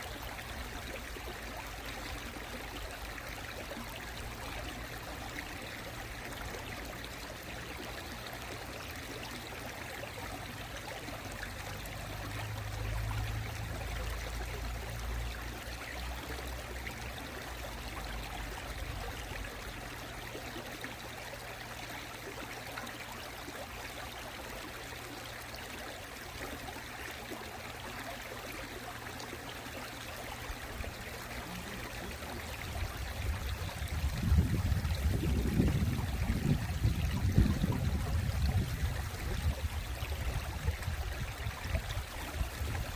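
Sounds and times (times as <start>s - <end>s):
stream water over rocks: 0.0s - 42.9s.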